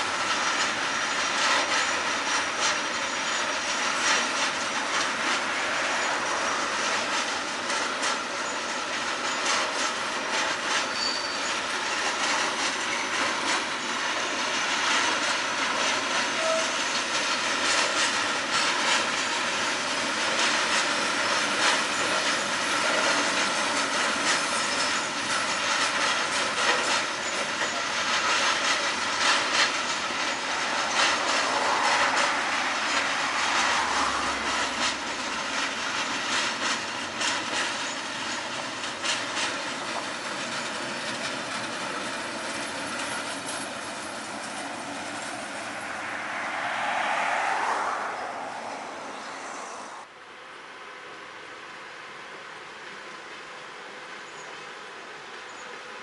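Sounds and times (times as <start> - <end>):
wheels clicking over rail joints: 0.0 - 48.4
wheel squeals: 0.0 - 50.0
steel wheels rushing on rail: 0.0 - 56.0.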